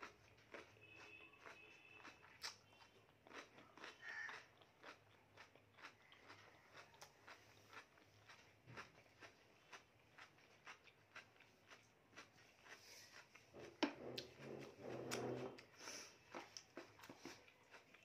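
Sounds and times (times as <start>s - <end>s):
chewing with mouth clicks: 0.0s - 18.0s.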